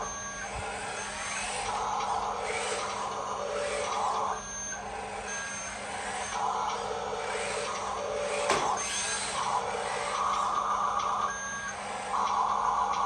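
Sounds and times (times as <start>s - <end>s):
toy truck electric motors whirring: 0.0s - 13.0s.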